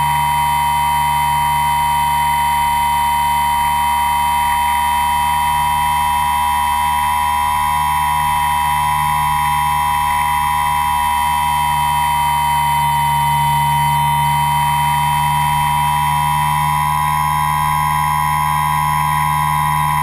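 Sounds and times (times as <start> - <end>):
model aircraft motor whine: 0.0 - 20.0.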